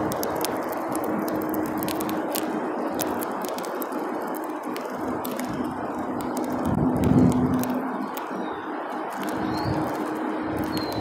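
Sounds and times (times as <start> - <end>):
beaks pecking seed on tray: 0.0 - 11.0
steady background rush: 0.0 - 11.0.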